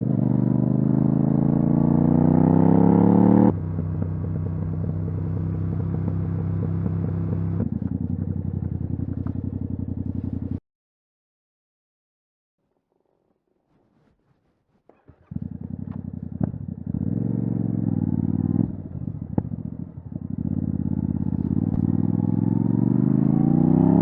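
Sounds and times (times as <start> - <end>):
motorcycle engine revving: 0.0 - 10.6, 15.0 - 24.0.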